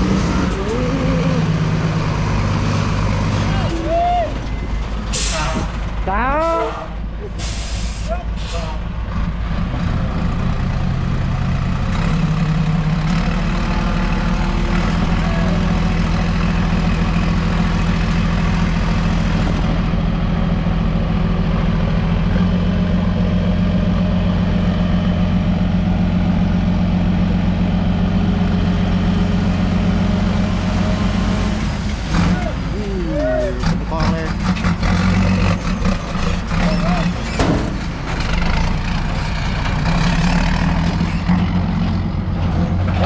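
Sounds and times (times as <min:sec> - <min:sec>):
heavy truck engine running: 0:00.0 - 0:43.0.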